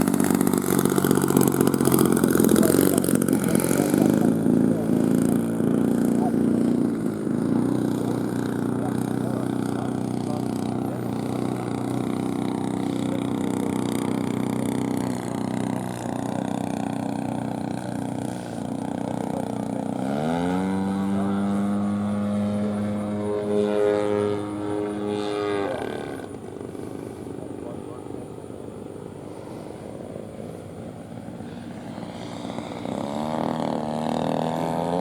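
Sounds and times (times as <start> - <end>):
model aircraft engine running: 0.0 - 35.0.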